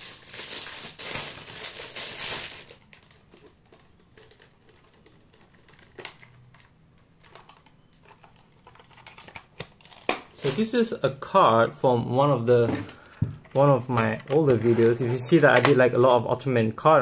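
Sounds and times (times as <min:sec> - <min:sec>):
plastic crinkling and rustling: 0:00.0 - 0:10.9, 0:12.0 - 0:16.1.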